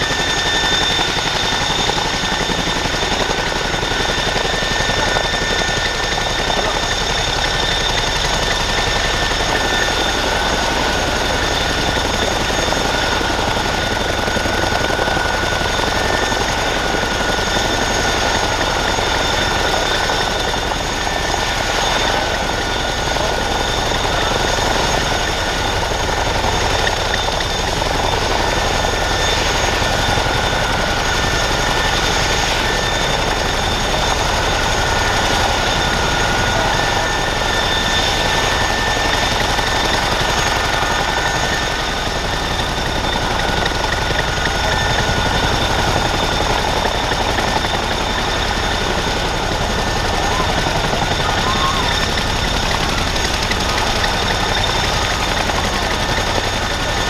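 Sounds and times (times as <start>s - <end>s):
helicopter rotor rushing: 0.0s - 57.0s
high turbine whine: 0.0s - 57.0s.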